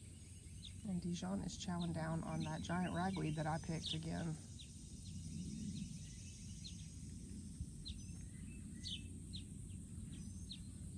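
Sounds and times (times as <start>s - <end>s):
birds chirping: 0.0s - 10.9s
low outdoor rumble: 0.0s - 10.9s.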